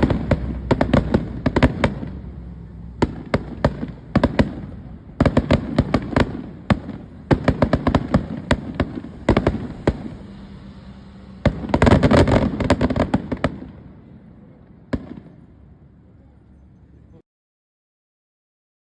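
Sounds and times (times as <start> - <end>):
fireworks crackling: 0.0 - 15.7.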